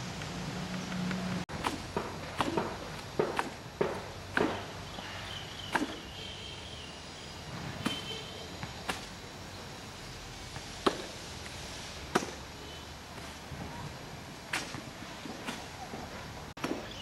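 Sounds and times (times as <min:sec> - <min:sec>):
steady outdoor background: 0:00.0 - 0:17.0.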